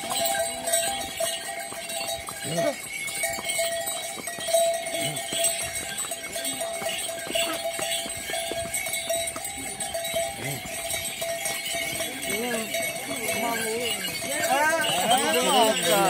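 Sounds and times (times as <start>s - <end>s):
harness bells jingling: 0.0s - 16.0s
hooves clicking on stone: 0.0s - 16.0s.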